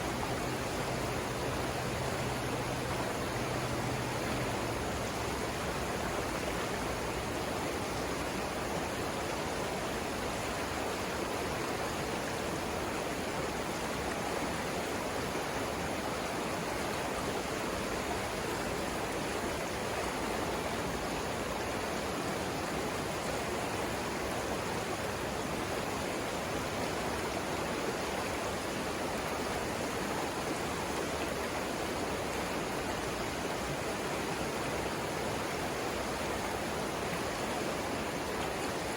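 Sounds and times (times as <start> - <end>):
water rushing over rapids: 0.0 - 38.9.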